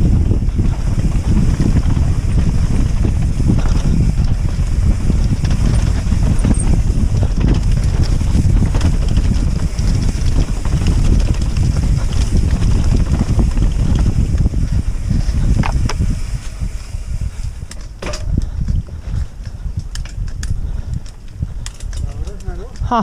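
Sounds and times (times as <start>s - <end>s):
bike tyres clicking on trail: 0.0s - 23.0s
mountain bike rattling: 0.0s - 23.0s
wind buffeting microphone: 0.0s - 23.0s.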